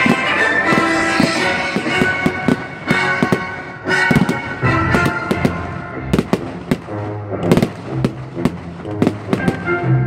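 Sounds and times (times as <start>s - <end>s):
fireworks bangs and pops: 0.0s - 9.8s
music playing: 0.0s - 10.0s.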